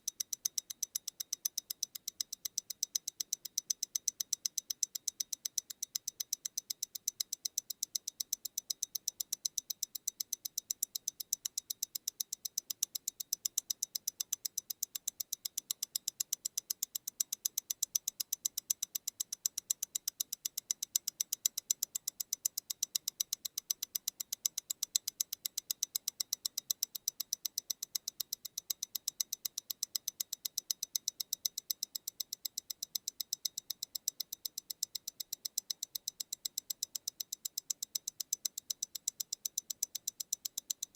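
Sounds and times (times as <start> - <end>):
watch ticking: 0.0 - 40.9.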